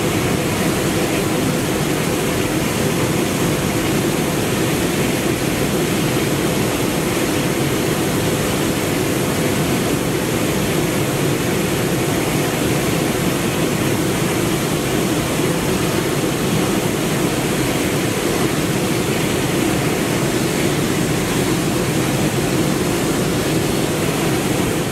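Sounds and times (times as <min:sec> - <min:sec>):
jet engine roar: 0:00.0 - 0:24.9.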